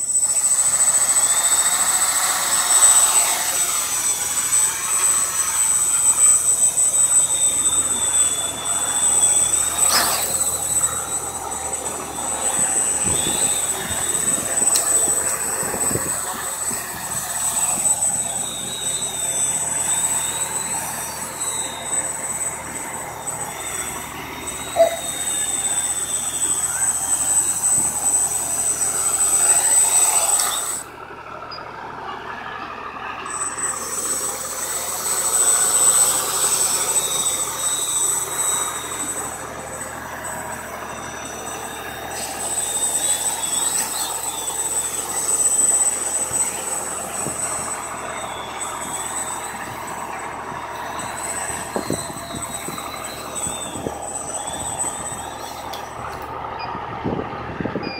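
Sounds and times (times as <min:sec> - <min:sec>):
quadcopter motors buzzing: 0:00.0 - 0:57.9.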